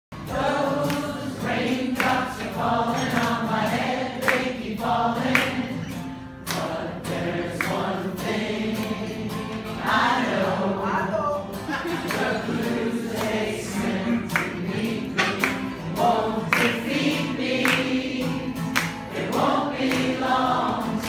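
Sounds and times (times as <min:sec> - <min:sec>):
acoustic guitar strummed: 0:00.1 - 0:21.0.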